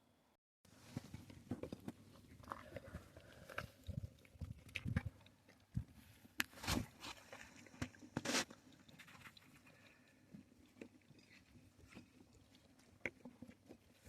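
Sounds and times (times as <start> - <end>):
animal chewing and crunching food: 0.8 - 14.0.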